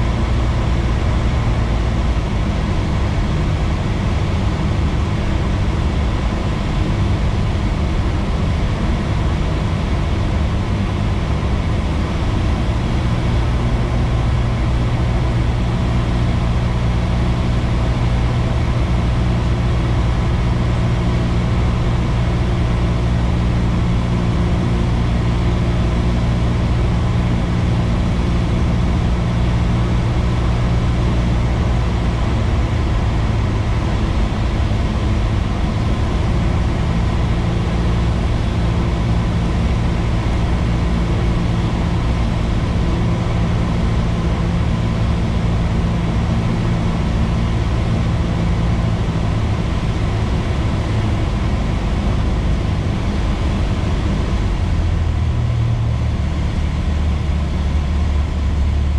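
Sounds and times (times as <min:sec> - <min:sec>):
airplane engine and propeller drone: 0:00.0 - 0:58.9.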